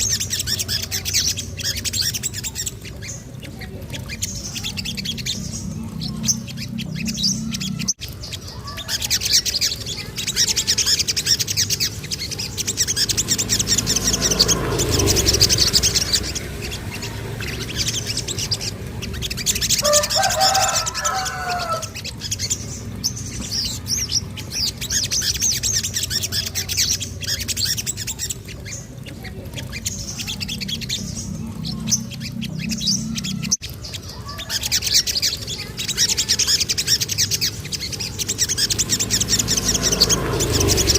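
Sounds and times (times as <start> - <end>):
bird singing high chirps and trills: 0.0 - 40.9.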